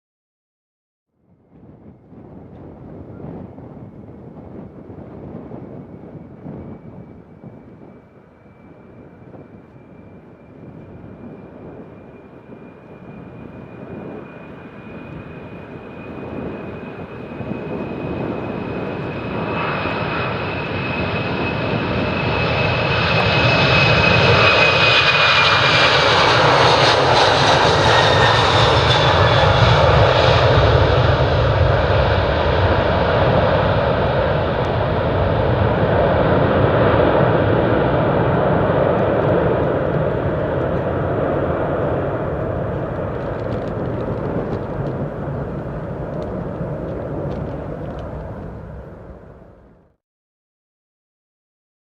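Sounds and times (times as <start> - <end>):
jet engines at takeoff: 1.2 - 50.0
high jet whine: 1.5 - 50.0.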